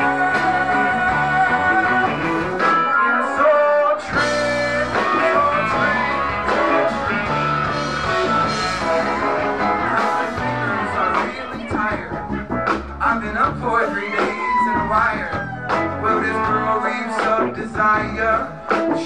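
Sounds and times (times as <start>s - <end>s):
man singing long notes: 0.0s - 12.2s, 13.0s - 19.0s
live band playing: 0.0s - 19.0s.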